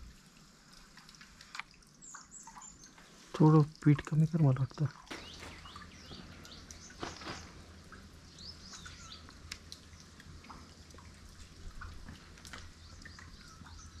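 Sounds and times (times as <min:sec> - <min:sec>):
low steady hum: 0:00.0 - 0:14.0
sharp clicks or drips: 0:00.7 - 0:14.0
small birds chirping: 0:01.9 - 0:14.0.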